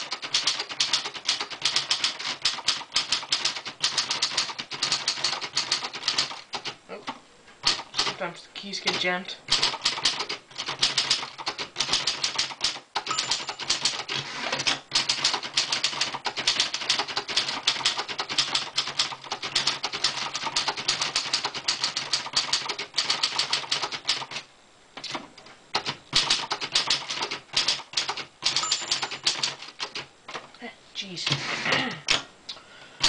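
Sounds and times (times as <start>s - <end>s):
fast typing on manual typewriter: 0.0s - 6.8s, 7.6s - 8.2s, 8.8s - 30.4s.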